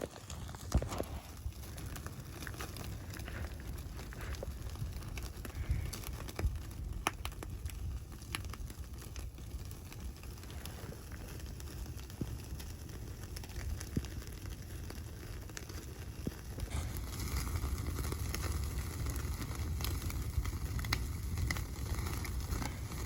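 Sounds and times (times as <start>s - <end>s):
sharp crackles and clicks: 0.0s - 23.0s
steady low rumble: 0.4s - 23.0s.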